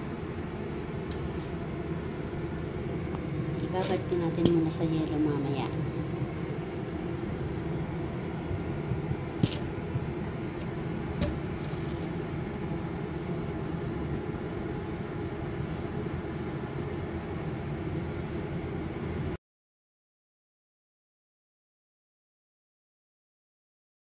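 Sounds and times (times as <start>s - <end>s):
exhaust fan humming: 0.0s - 19.4s.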